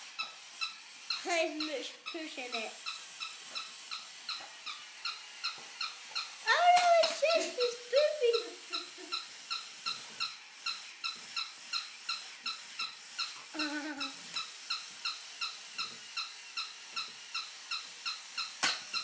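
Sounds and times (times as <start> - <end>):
squeaky toy squeaking: 0.2 - 19.0.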